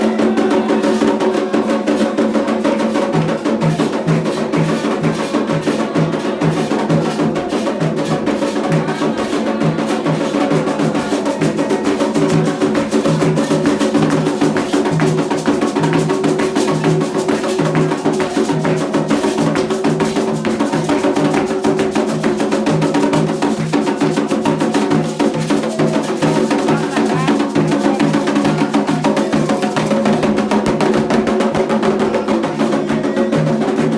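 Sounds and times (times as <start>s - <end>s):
fast ritual drumming: 0.0s - 33.9s.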